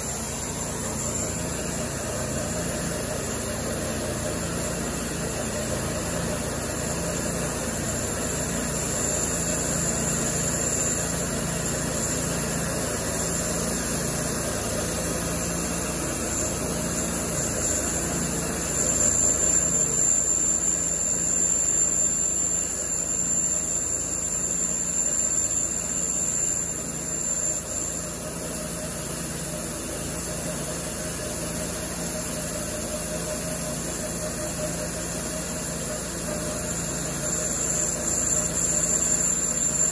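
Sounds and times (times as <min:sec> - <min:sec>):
band blade whining through log: 0:00.0 - 0:39.9
sawmill engine running: 0:00.0 - 0:39.9.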